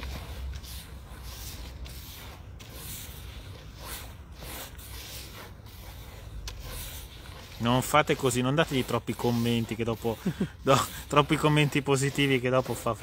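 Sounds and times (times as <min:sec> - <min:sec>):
grit rasping on wire mesh sieve: 0:00.0 - 0:13.0.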